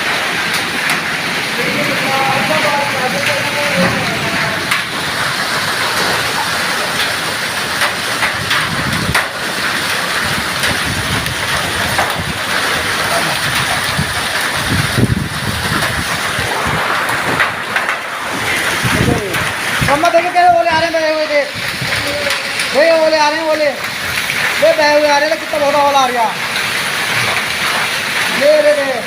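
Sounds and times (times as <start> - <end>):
hailstones clattering on hard surfaces: 0.0 - 29.0
heavy rain pouring: 0.0 - 29.0.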